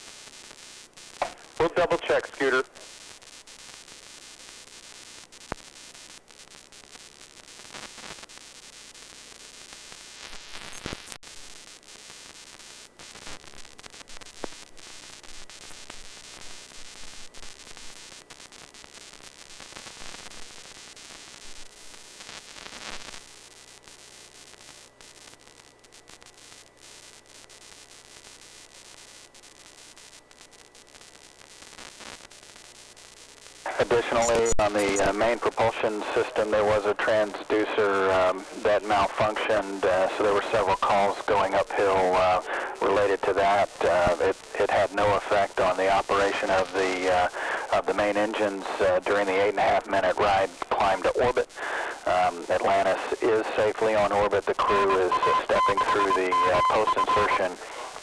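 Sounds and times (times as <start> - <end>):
static hiss with crackles: 0.0 - 58.0.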